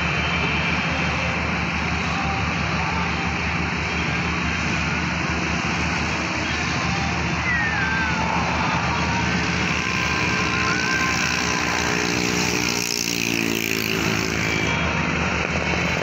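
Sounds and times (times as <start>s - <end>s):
engine drone: 0.0s - 16.0s
humming engine note: 0.0s - 16.0s.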